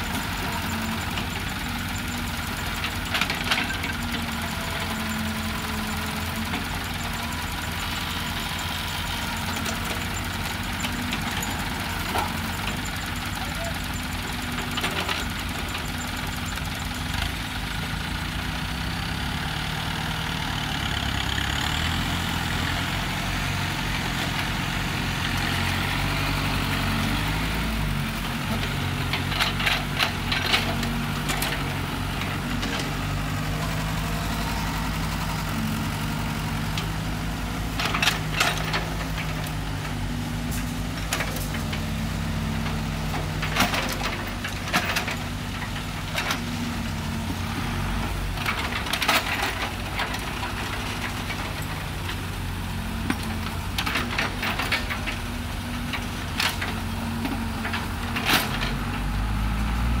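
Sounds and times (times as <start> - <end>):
excavator engine running: 0.0 - 60.0.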